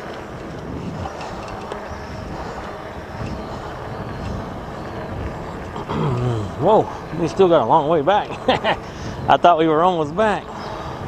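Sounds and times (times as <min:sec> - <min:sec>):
bike tyre noise: 0:00.0 - 0:11.0
wind on microphone: 0:00.0 - 0:11.0.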